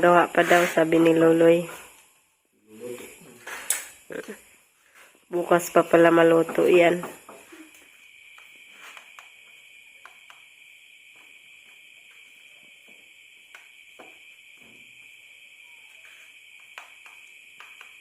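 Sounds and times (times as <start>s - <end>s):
night insects shrilling: 0.0s - 18.0s.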